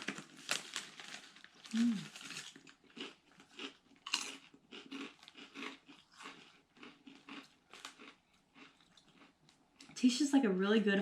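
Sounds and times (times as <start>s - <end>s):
person crunching potato chips: 0.0s - 9.9s.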